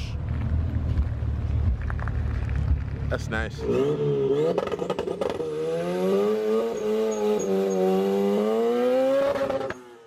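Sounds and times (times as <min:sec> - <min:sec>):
car engine revving: 0:00.4 - 0:10.0.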